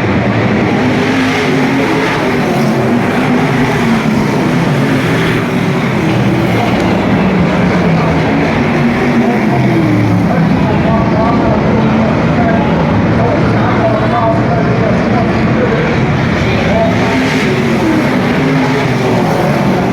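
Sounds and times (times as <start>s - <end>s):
stock car engines racing: 0.0s - 19.9s.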